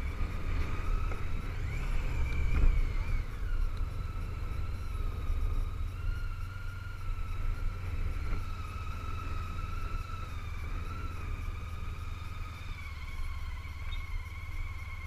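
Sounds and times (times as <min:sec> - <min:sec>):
low wind rumble: 0:00.0 - 0:15.0
motorcycle engine whine: 0:00.0 - 0:15.0.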